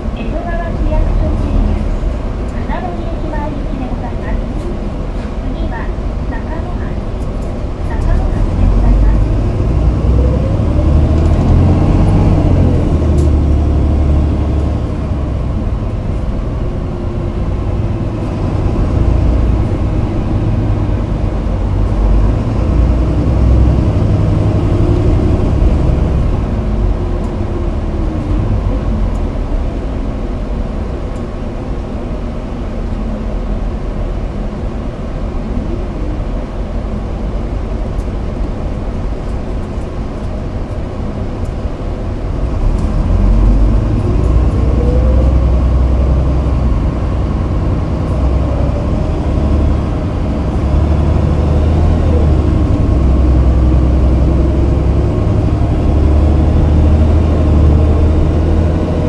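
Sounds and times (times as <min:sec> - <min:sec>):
bus engine rumble: 0:00.0 - 0:59.0
road noise: 0:00.0 - 0:59.0.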